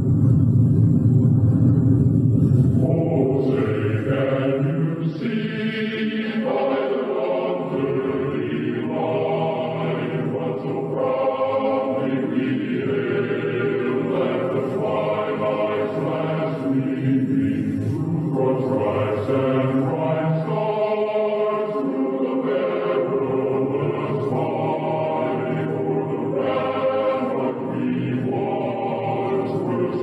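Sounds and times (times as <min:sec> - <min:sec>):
choral chant: 0:02.5 - 0:30.0.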